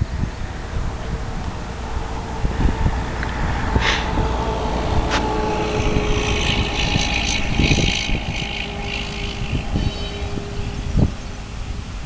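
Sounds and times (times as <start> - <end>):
freight cars rumbling on rails: 0.0 - 12.0
metallic wheel squeal: 1.1 - 11.9.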